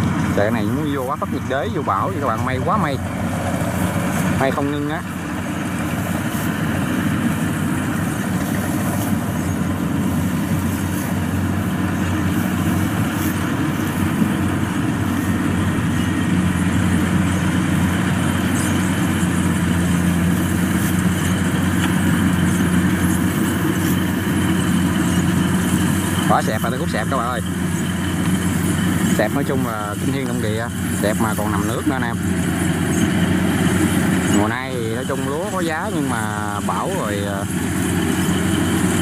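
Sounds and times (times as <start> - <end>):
combine harvester engine running: 0.0 - 39.0.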